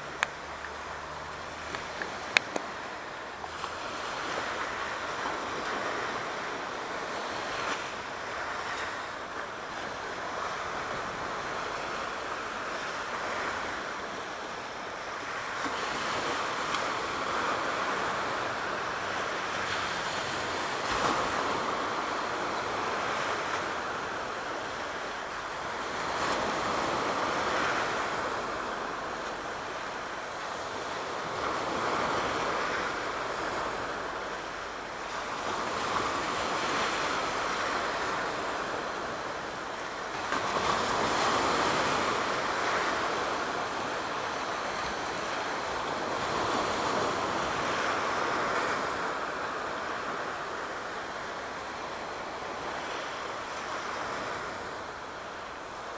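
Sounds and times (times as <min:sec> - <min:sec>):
waves washing in: 0:00.0 - 0:55.9.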